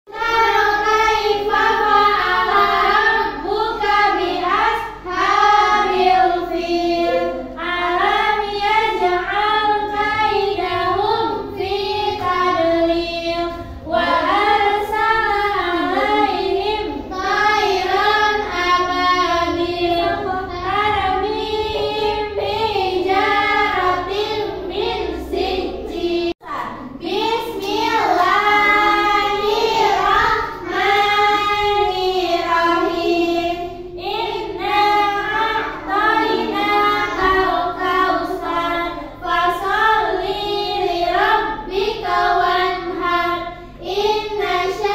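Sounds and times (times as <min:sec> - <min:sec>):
children singing: 0:00.1 - 0:44.9.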